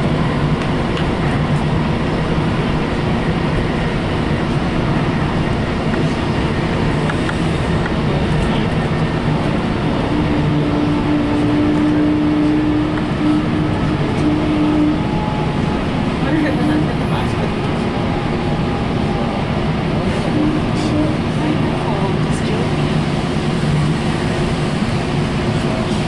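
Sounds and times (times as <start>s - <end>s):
steady hum: 0.0s - 26.0s
train wheels rumbling on track: 0.0s - 26.0s.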